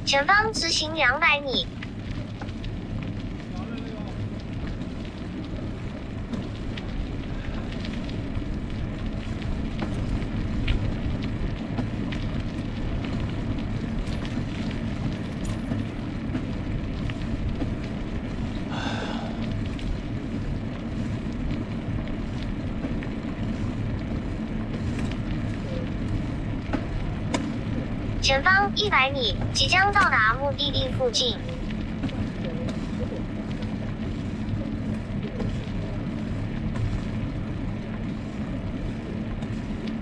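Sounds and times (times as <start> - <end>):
wind rumbling on microphone: 0.0 - 40.0.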